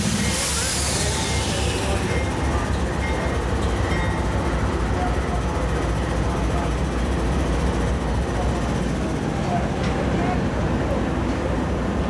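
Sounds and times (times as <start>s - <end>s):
diesel locomotive engine drone: 0.0s - 12.0s
train wheels rolling on rails: 0.0s - 12.0s.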